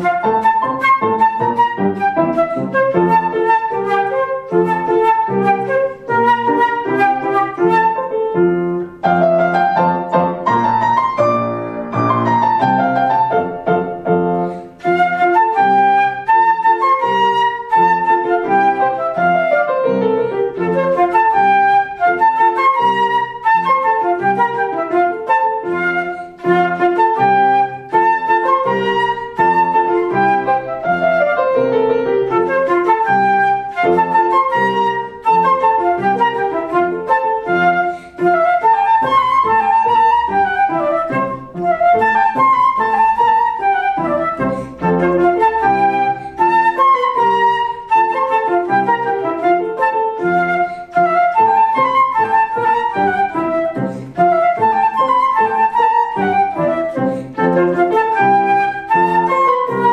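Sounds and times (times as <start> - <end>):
flute melody: 0.0 - 59.9
piano accompaniment: 0.0 - 59.9.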